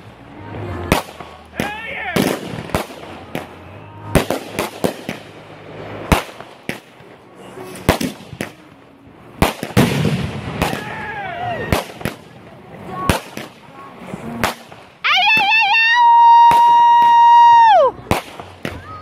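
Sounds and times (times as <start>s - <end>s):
fireworks sharp bangs: 0.0s - 19.0s.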